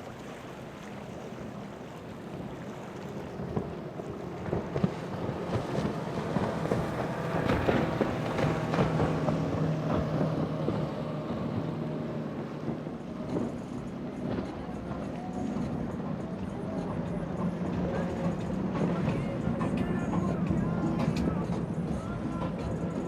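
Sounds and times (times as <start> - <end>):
motorboat engine hum: 0.0 - 23.0
water wash: 0.0 - 23.0
wind buffeting microphone: 2.2 - 23.0.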